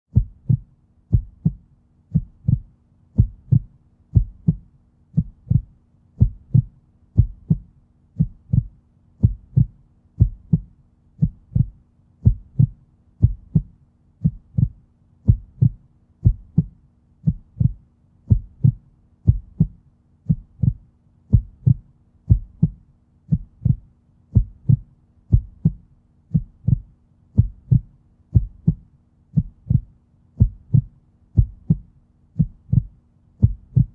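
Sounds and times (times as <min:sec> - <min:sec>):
faint low hum: 0:00.1 - 0:33.9
heartbeat double thumps: 0:00.1 - 0:33.9.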